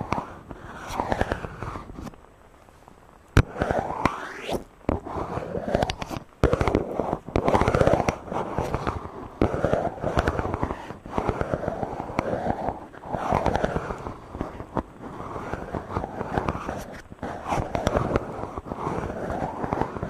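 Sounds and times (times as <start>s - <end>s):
microphone being rubbed: 0.0s - 2.2s, 3.4s - 20.0s.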